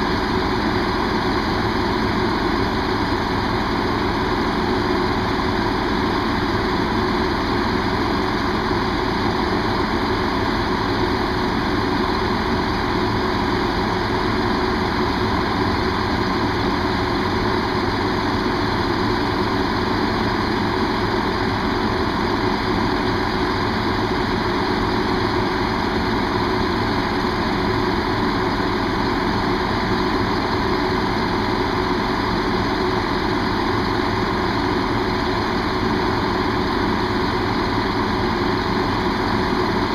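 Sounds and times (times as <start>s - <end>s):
diesel train engine idling: 0.0s - 39.9s.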